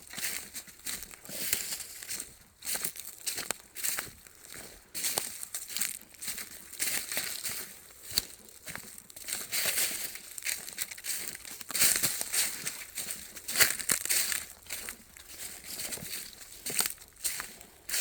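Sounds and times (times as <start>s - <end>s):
footsteps crunching dry leaves: 0.0s - 18.0s.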